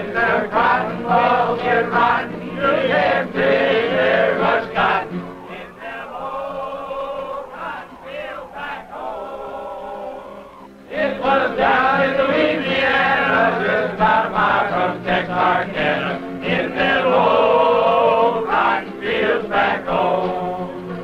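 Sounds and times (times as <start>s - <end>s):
acoustic guitar: 0.0s - 8.0s, 10.2s - 21.0s
men singing together: 0.0s - 21.0s.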